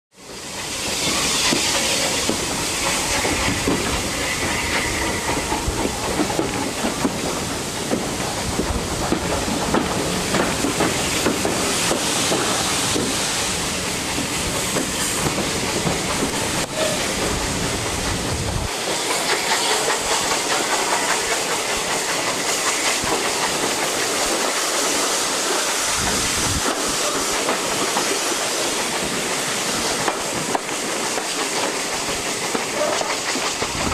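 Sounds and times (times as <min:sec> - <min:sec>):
steam hissing: 0:00.2 - 0:33.9
train coaches rattling: 0:00.2 - 0:33.9.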